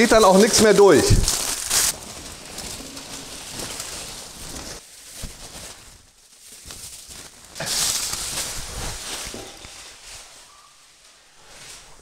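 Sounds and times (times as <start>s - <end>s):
aluminium foil crinkling: 0.0s - 10.6s.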